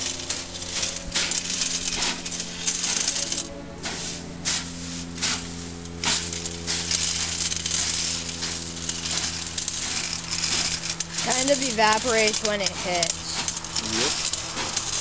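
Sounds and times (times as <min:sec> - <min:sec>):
spray bottle spritzing water: 0:00.0 - 0:15.0
steady low hum: 0:00.0 - 0:15.0.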